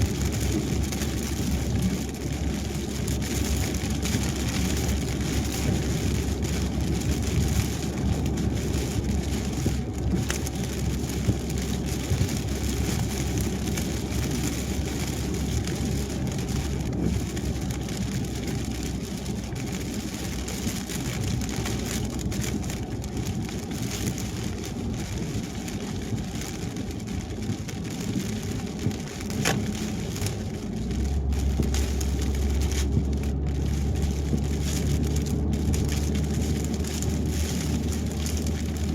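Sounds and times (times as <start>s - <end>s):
low rumble: 0.0s - 38.9s
rain hitting a car: 0.0s - 38.9s
tyre and road noise: 0.0s - 38.9s.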